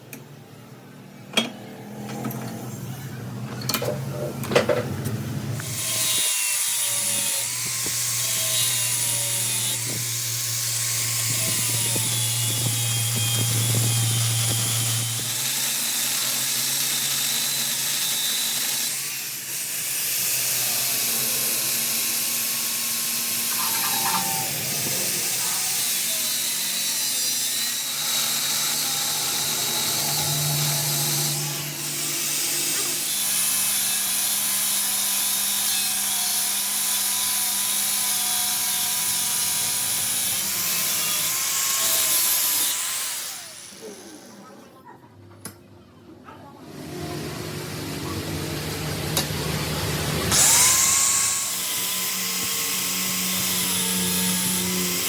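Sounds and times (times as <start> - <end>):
power tool whining on metal: 5.0 - 44.4, 46.7 - 55.0.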